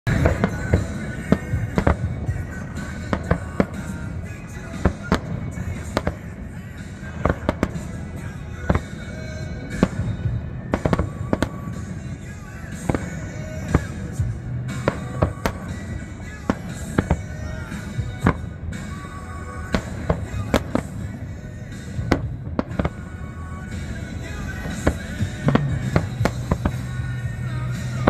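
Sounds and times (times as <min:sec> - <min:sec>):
music playing: 0:00.0 - 0:28.0
fireworks bangs: 0:00.1 - 0:28.0.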